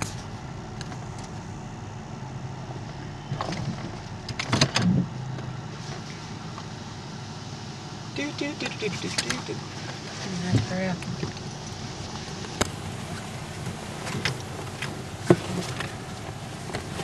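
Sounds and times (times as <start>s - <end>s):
car wash low rumble: 0.0s - 17.0s.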